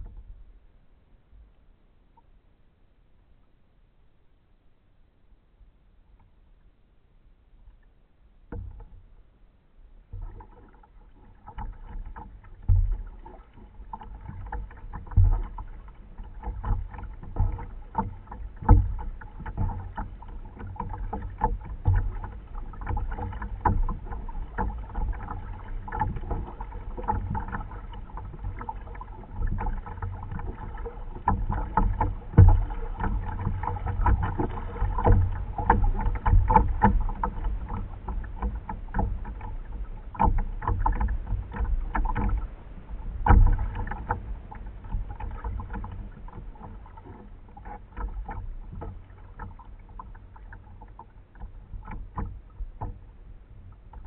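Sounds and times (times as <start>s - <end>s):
paddle splashing water: 7.3s - 54.0s.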